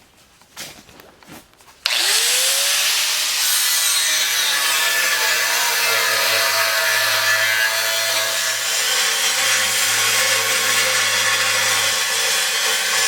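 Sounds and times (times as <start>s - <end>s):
angle grinder grinding steel: 1.8s - 13.0s.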